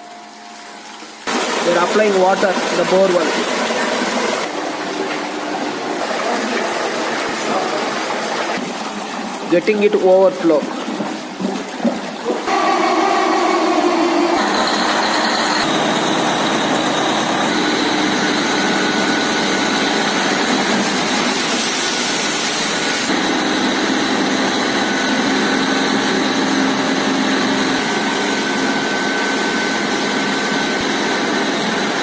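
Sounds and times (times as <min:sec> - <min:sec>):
air compressor running with whine: 0:01.3 - 0:08.6, 0:12.4 - 0:32.0.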